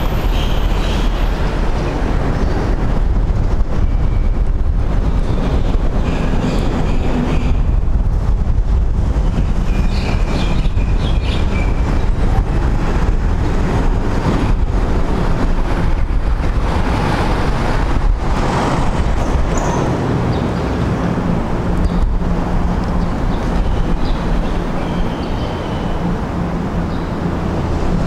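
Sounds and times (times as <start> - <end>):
loud rumbling background noise: 0.0 - 28.0.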